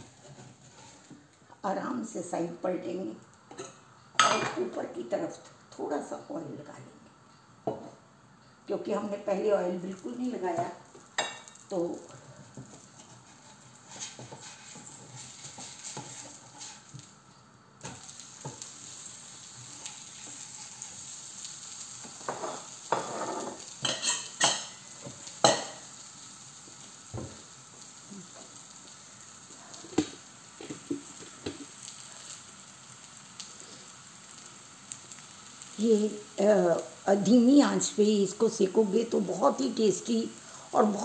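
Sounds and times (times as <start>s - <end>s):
flatbread sizzling in pan: 0.0s - 6.6s, 7.4s - 41.0s.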